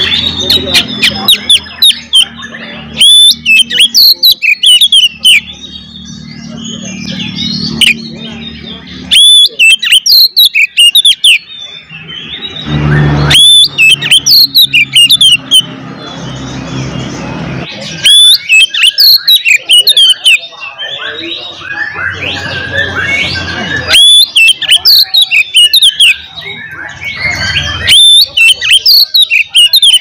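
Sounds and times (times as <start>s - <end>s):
bird chattering: 0.0s - 30.0s
magpie-robin singing whistled notes: 0.0s - 30.0s.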